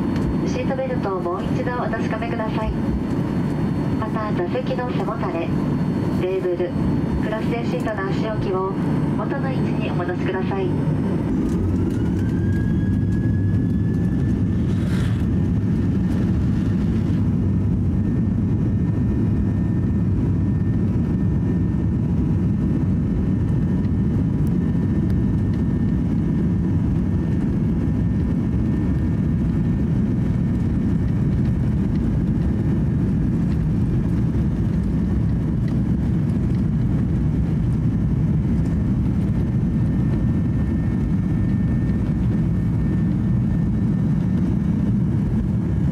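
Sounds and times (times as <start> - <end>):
high engine whine: 0.0 - 45.9
jet engines roaring: 0.0 - 45.9.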